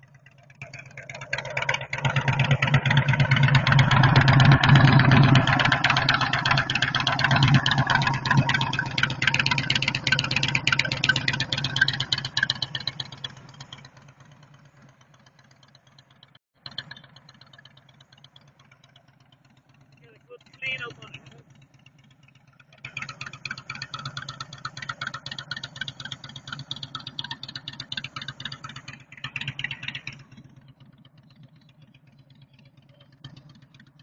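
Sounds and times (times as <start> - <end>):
faint engine running: 0.0 - 34.0
motorcycle engine running: 0.0 - 34.0.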